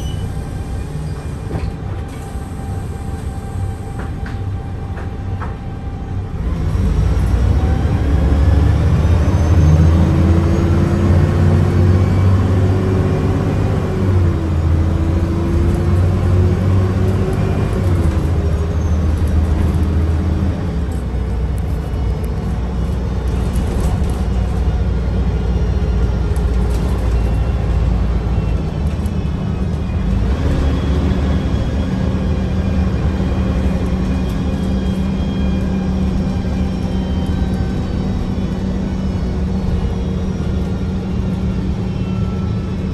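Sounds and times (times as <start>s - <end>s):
bus engine with gearbox whine: 0.0s - 42.9s.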